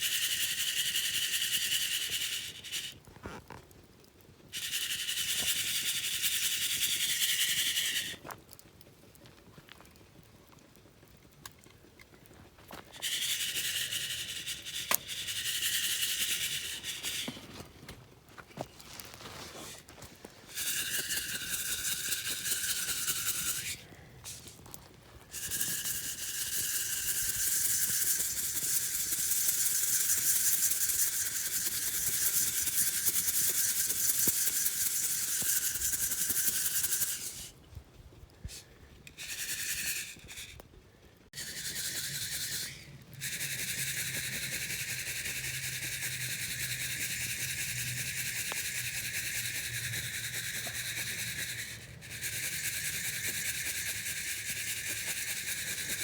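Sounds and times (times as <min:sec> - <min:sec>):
coffee beans rattling in mesh: 0:00.0 - 0:03.6, 0:04.4 - 0:08.2, 0:12.8 - 0:17.7, 0:19.6 - 0:37.5, 0:38.5 - 0:40.6, 0:41.3 - 0:56.0.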